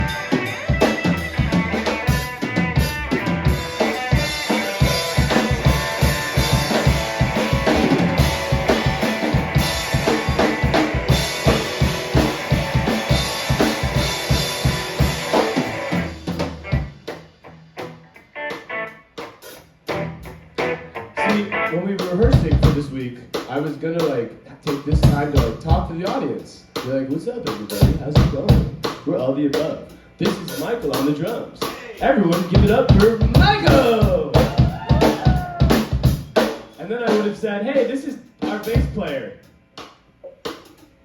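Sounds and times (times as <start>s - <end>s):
rock band playing: 0.0s - 23.8s, 24.7s - 37.4s, 38.4s - 39.2s
drum kit beat: 0.0s - 37.4s, 38.3s - 41.0s.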